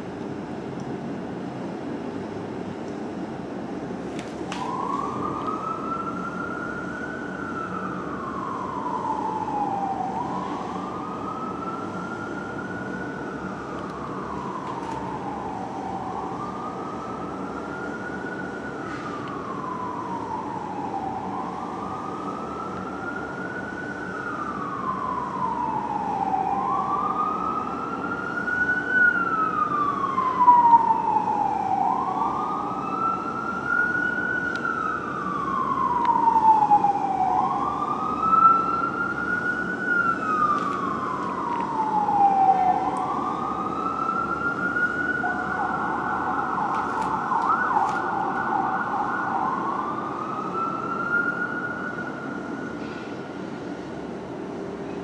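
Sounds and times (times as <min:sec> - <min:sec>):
city traffic noise: 0:00.0 - 0:55.0
fire truck siren wailing: 0:03.8 - 0:54.6
higher-pitched second siren: 0:04.5 - 0:53.2.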